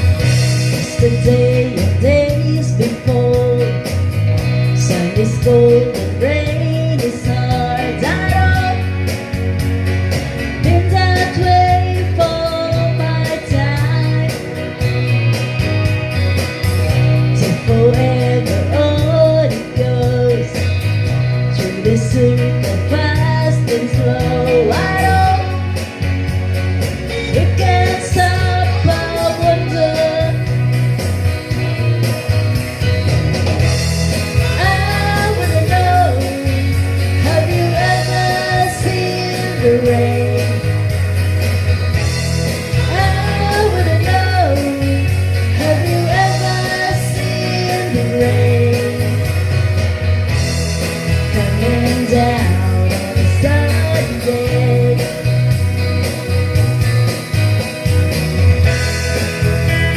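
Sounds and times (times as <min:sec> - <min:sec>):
rock song with sung vocal: 0:00.0 - 0:59.9.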